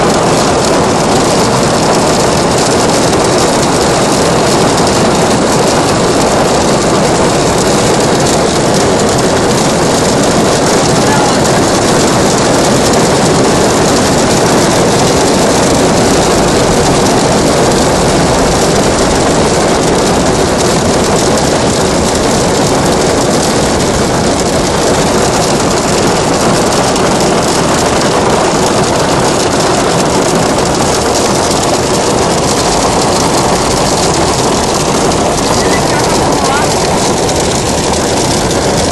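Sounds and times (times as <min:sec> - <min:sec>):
hail falling heavily: 0:00.0 - 0:38.9.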